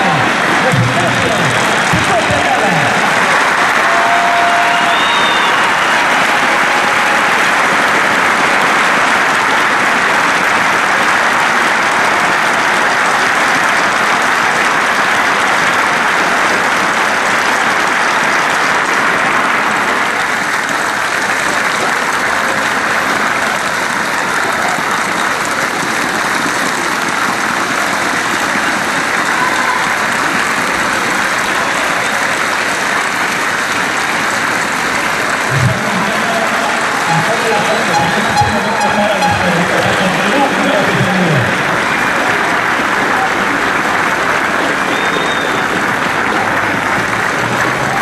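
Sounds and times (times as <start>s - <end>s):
crowd applauding: 0.0s - 48.0s.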